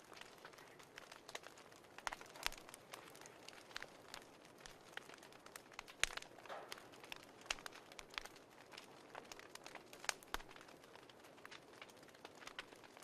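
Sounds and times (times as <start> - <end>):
soft steady hiss: 0.0 - 13.0
wood fire crackling: 0.0 - 13.0.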